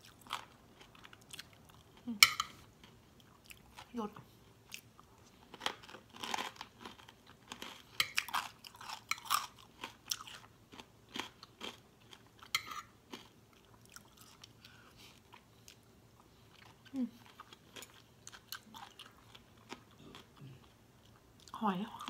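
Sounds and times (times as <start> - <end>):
chewing and crunching salad: 0.0 - 22.0.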